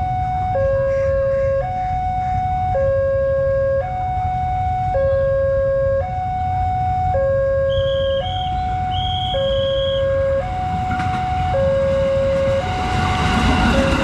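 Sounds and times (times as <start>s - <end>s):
level crossing two-tone alarm: 0.0s - 14.0s.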